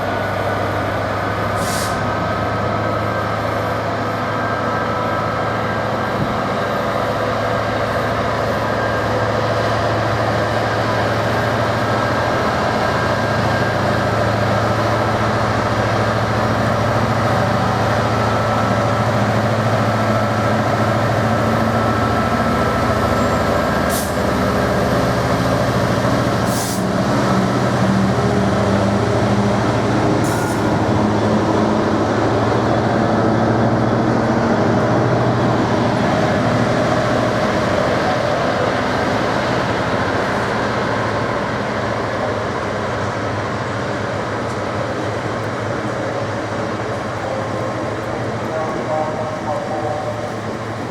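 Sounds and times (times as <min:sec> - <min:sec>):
diesel locomotive engines droning: 0:00.0 - 0:50.9.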